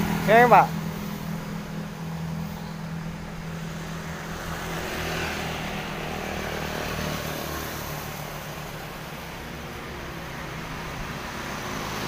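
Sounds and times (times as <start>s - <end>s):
road traffic engine hum: 0.0s - 12.0s
vehicle passing: 0.0s - 12.0s.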